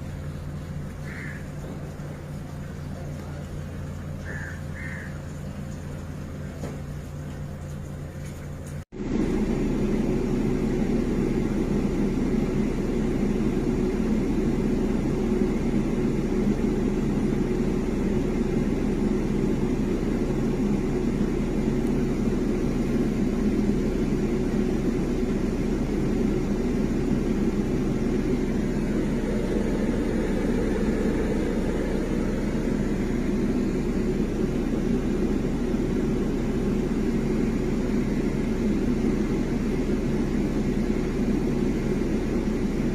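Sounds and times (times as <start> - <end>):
air conditioning humming: 0.0 - 42.9.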